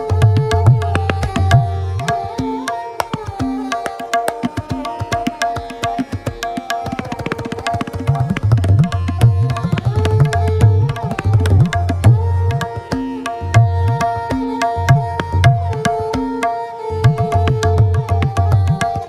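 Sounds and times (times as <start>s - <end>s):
sarangi melody: 0.0s - 19.0s
tabla playing: 0.0s - 19.0s.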